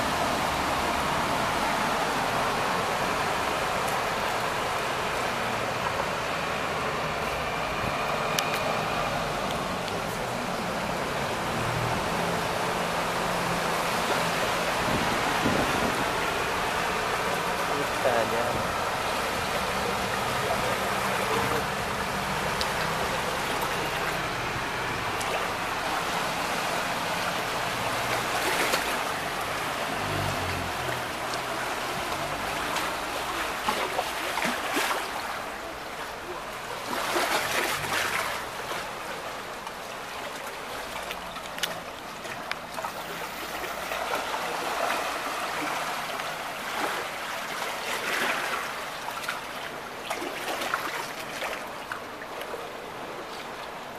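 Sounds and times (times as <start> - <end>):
floodwater rushing: 0.0 - 53.9.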